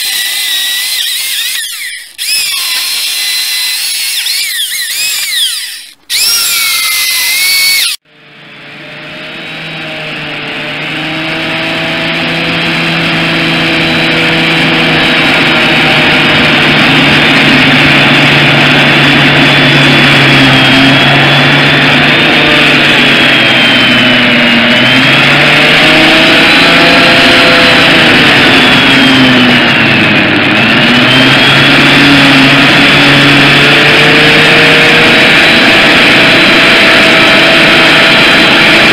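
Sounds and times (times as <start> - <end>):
electric chainsaw cutting logs: 0.0 - 8.0, 8.6 - 38.9.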